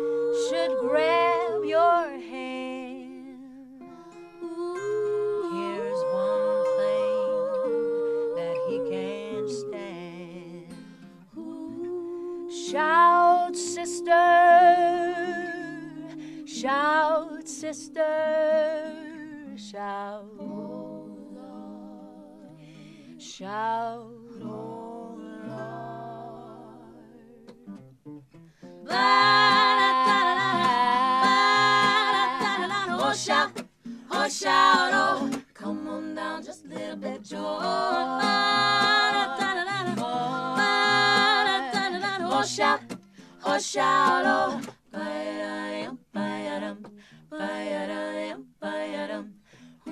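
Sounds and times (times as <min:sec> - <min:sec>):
female voices singing harmony: 0:00.0 - 0:27.6, 0:28.8 - 0:49.9
acoustic guitar: 0:00.0 - 0:49.9.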